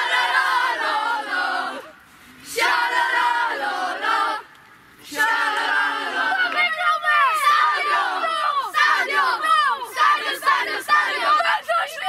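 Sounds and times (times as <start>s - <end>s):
boys chanting in unison: 0.0s - 12.0s.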